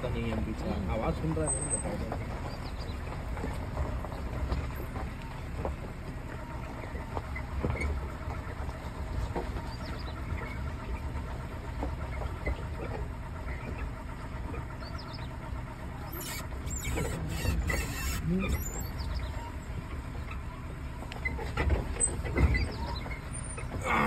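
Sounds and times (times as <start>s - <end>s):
car engine low rumble: 0.0s - 24.0s.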